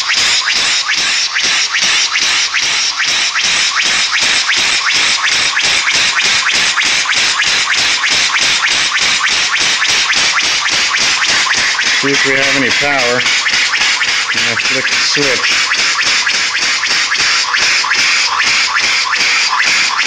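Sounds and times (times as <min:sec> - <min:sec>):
steam engine hissing and chuffing: 0:00.0 - 0:20.0.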